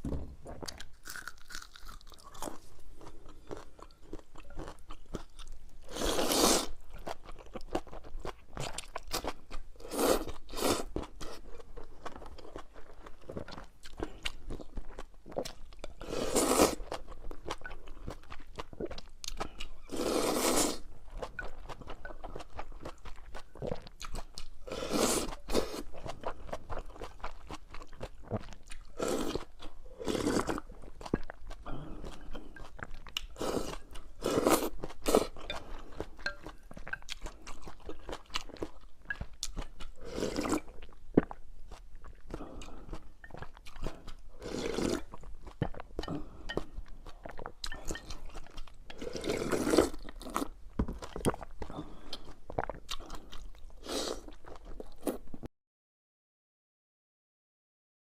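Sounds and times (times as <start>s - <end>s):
person chewing and crunching: 0.4s - 55.5s.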